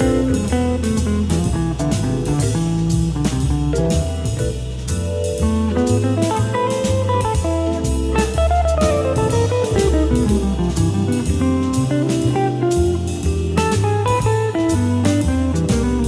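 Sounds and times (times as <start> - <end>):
bass: 0.0 - 16.0
drum kit beat: 0.0 - 16.0
guitar: 0.0 - 16.0.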